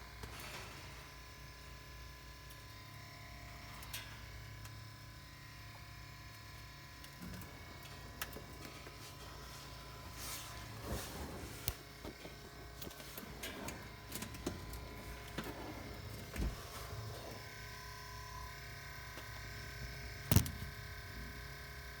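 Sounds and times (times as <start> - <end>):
electric pump motor whirring: 0.0 - 22.0.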